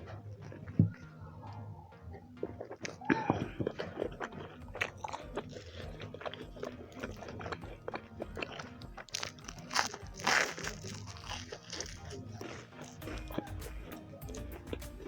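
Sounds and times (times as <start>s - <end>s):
background music: 0.0s - 15.0s
chewing with wet clicks: 0.0s - 15.0s
crunchy bite: 2.4s - 15.0s.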